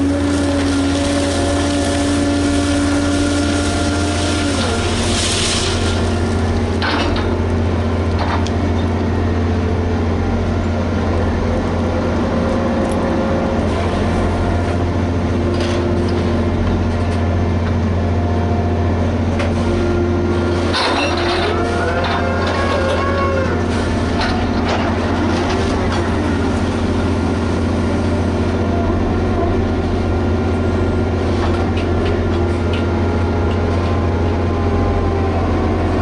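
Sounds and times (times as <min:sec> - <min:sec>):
diesel engine droning: 0:00.0 - 0:36.0.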